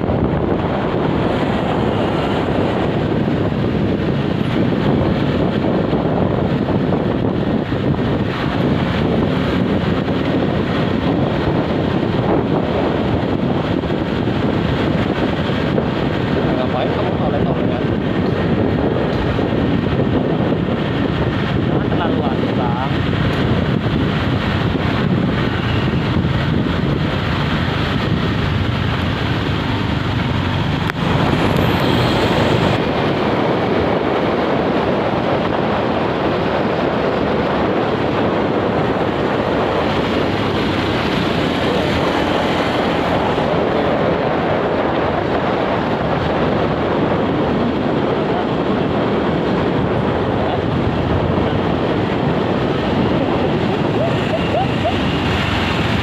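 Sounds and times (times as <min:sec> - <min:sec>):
traffic roar: 0:00.0 - 0:56.0.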